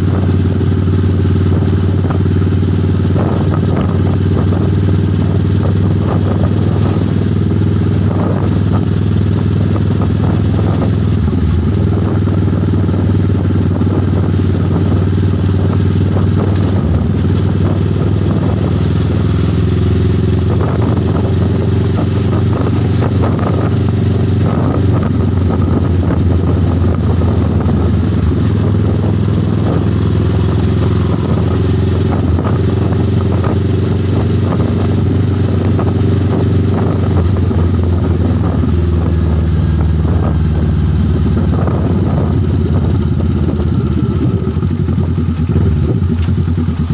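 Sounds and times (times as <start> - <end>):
motorcycle engine humming: 0.0 - 46.9.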